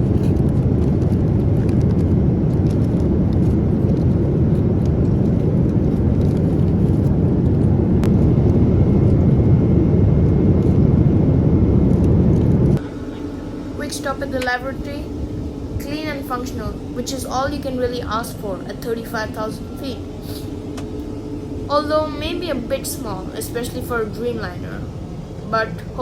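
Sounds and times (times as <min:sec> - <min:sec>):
aircraft cabin engine rush: 0:00.0 - 0:26.0.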